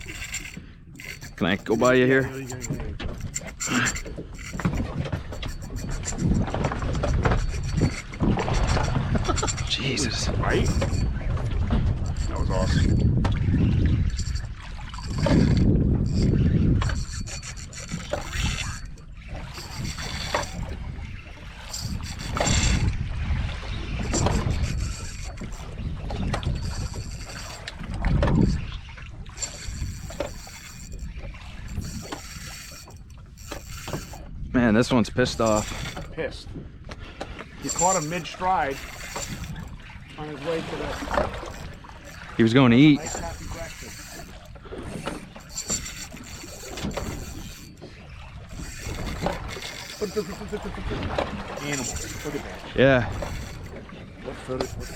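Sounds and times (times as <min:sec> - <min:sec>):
water slapping against hull: 0:00.0 - 0:54.9
wind buffeting microphone: 0:00.0 - 0:54.9.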